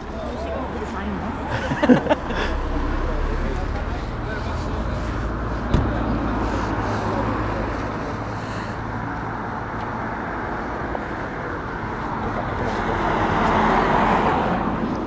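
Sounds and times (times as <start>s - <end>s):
hum of road traffic: 0.0s - 15.0s
vehicle passing: 0.0s - 15.0s.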